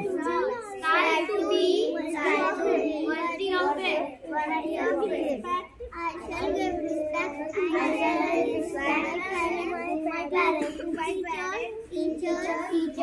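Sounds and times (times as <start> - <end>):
children chanting in unison: 0.0 - 10.8, 11.9 - 13.0.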